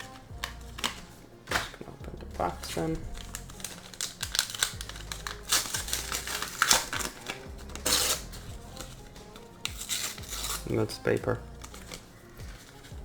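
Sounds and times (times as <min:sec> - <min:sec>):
paper packs crinkling and tearing: 0:00.0 - 0:13.0.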